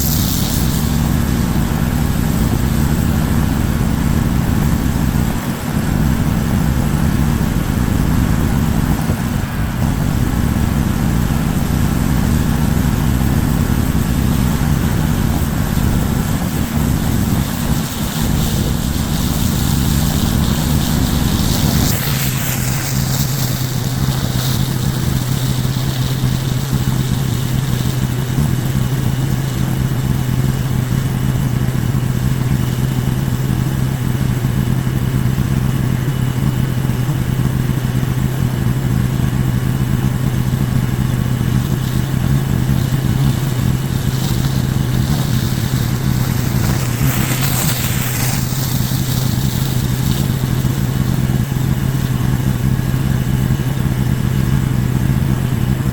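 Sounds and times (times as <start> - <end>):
high-pressure water spray hiss: 0.0 - 55.9
pressure washer engine running: 0.0 - 55.9.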